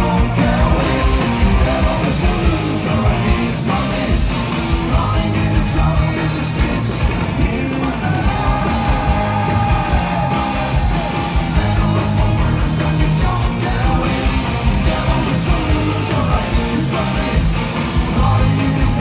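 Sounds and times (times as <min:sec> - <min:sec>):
heavy metal band playing: 0:00.0 - 0:19.0
person singing: 0:00.0 - 0:19.0.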